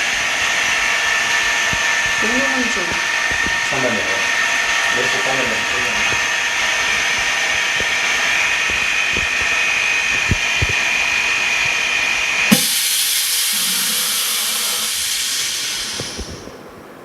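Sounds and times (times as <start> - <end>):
loud hiss of air: 0.0 - 16.9
machine whine: 0.0 - 17.0
scattered clicks: 0.1 - 14.1.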